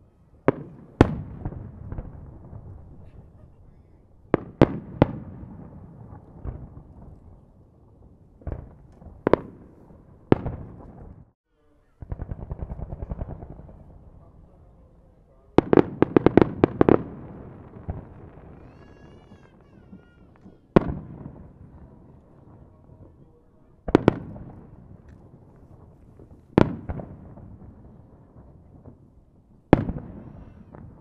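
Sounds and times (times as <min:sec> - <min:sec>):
fireworks bangs: 0:00.0 - 0:31.0
fireworks crackling volley: 0:00.0 - 0:31.0.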